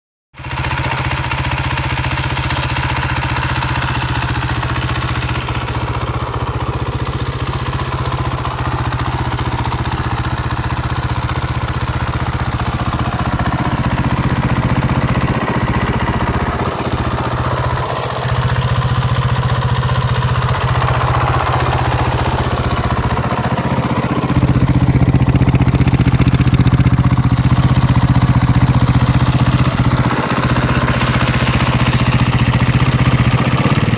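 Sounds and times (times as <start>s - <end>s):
motorcycle engine idling: 0.4s - 33.9s.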